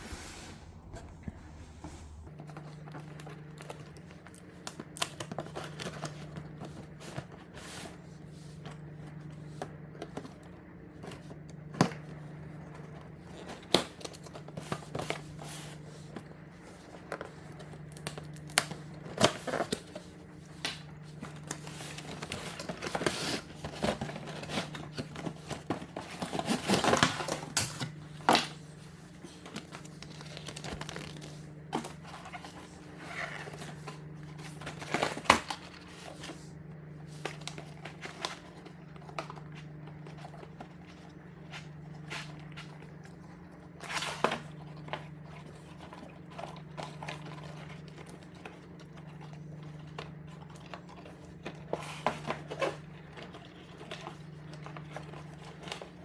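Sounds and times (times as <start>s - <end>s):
steady low hum: 0.0s - 56.0s
packaging crinkling and rustling: 0.7s - 56.0s.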